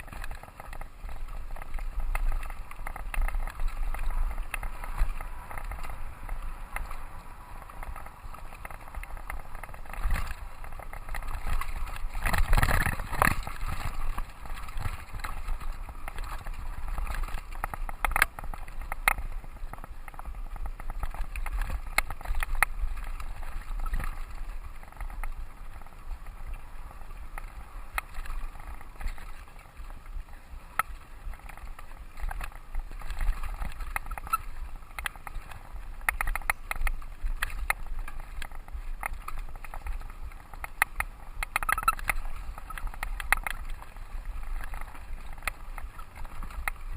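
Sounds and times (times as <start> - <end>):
bike rattles and clicks: 0.0 - 46.9
bike tyre rumble: 0.0 - 46.9.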